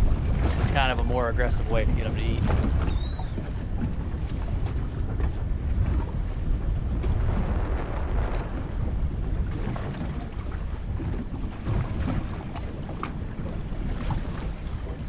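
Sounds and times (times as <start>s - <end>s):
water sloshing against boat hull: 0.0s - 15.0s
wind buffeting microphone: 0.0s - 15.0s.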